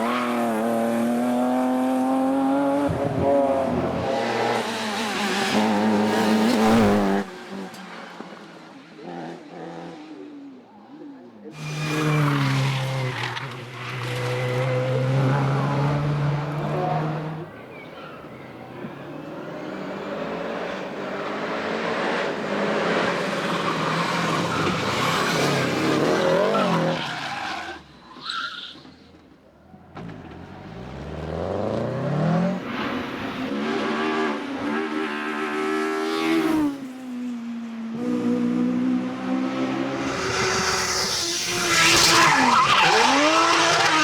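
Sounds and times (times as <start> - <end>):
race car engines revving: 0.0 - 28.0, 29.8 - 37.1, 37.9 - 44.0.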